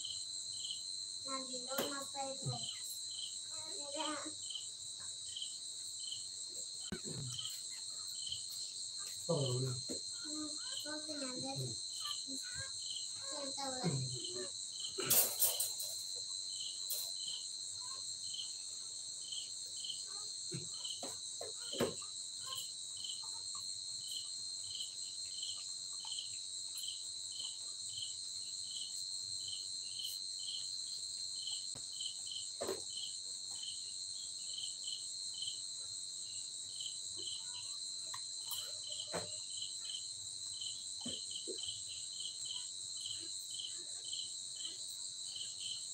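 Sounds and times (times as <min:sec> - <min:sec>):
insect chirping: 0:00.0 - 0:45.9
insects high-pitched trill: 0:00.0 - 0:45.9.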